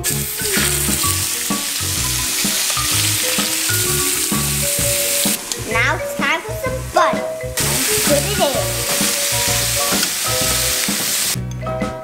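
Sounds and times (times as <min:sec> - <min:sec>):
fish sizzling in a pan: 0:00.0 - 0:11.4.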